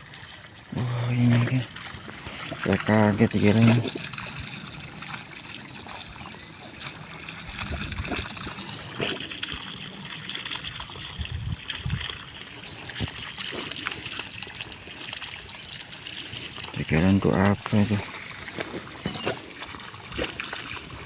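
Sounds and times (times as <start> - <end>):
water trickling and gurgling: 0.0 - 21.0.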